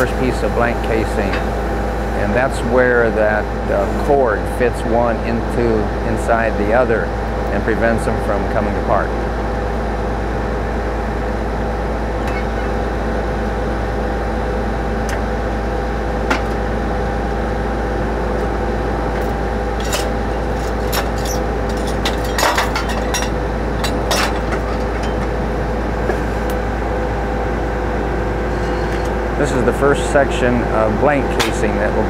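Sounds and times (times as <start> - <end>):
drilling rig engine running: 0.0 - 32.0.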